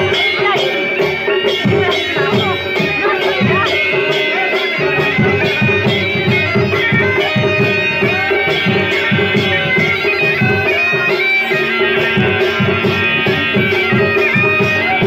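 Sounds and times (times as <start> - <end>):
bagpipe melody over drone: 0.0 - 15.0
drums beating: 0.0 - 15.0.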